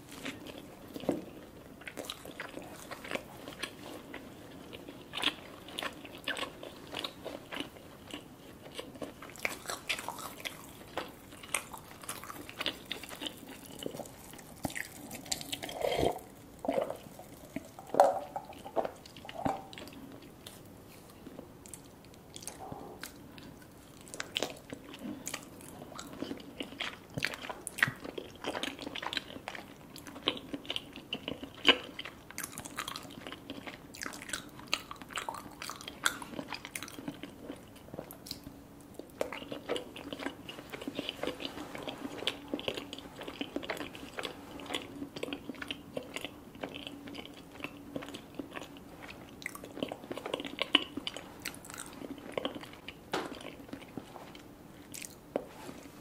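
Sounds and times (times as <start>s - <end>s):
faint low hum: 0.0s - 56.0s
wet chewing with mouth clicks: 0.1s - 55.5s.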